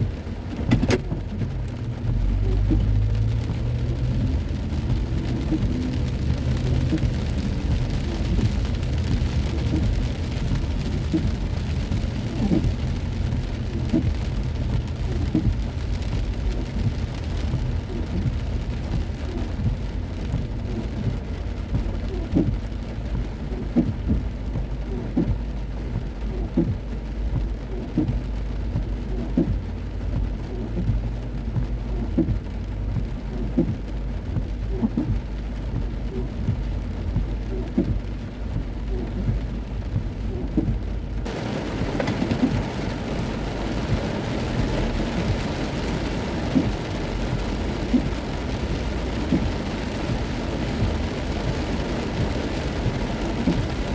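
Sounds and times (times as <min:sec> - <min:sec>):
heavy rain pelting a car: 0:00.0 - 0:53.9
low car rumble: 0:00.0 - 0:53.9
raindrop knocks: 0:00.0 - 0:53.9.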